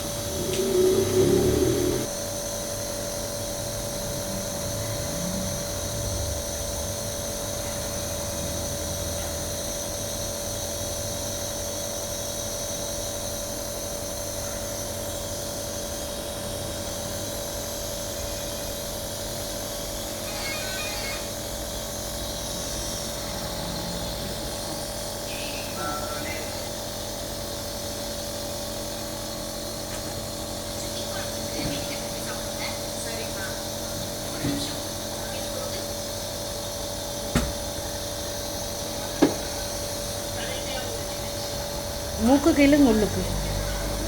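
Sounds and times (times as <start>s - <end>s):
air compressor motor hum and hiss: 0.0s - 44.0s.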